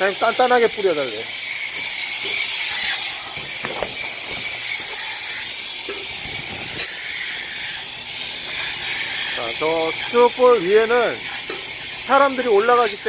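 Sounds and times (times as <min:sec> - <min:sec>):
spray gun hissing: 0:00.0 - 0:13.0.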